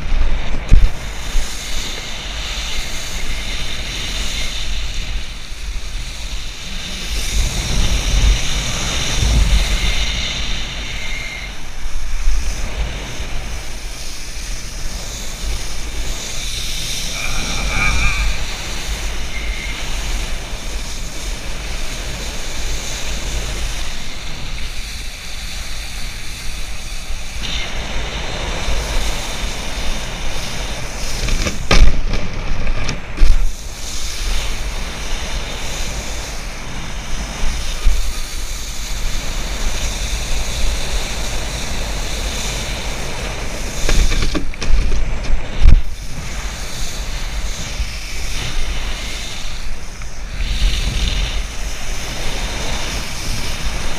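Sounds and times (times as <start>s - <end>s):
water rushing and spraying: 0.0s - 53.9s
wind buffeting microphone: 0.0s - 53.9s.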